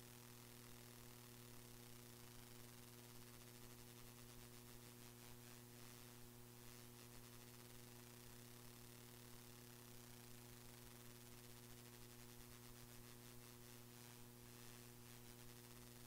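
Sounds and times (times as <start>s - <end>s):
faint electrical hum with hiss: 0.0s - 16.0s.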